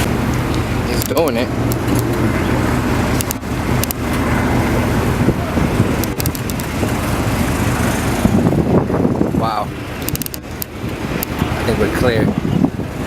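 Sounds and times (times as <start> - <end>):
boat engines low drone: 0.0 - 13.0.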